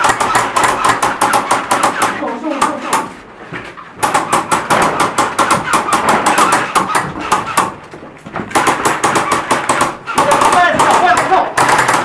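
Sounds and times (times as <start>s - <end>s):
airsoft guns firing: 0.0s - 3.2s, 4.0s - 7.8s, 8.4s - 12.0s.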